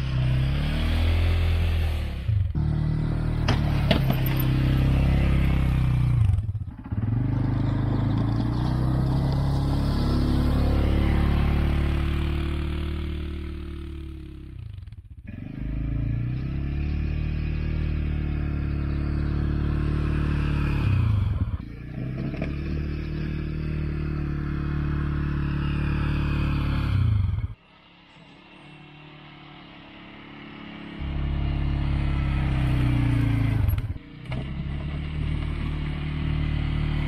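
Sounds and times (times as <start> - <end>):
atv engine running under load: 0.0 - 37.0.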